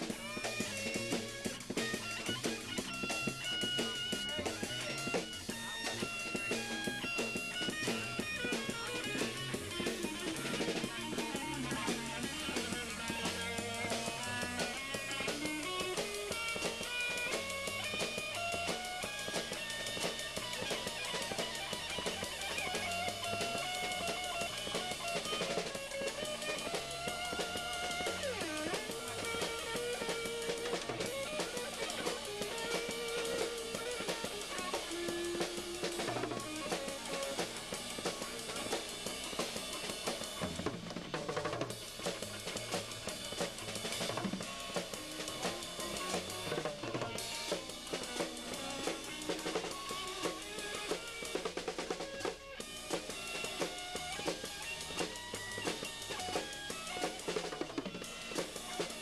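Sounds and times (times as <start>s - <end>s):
guitar melody with bent notes: 0.0s - 59.0s
live band playing: 0.0s - 59.0s.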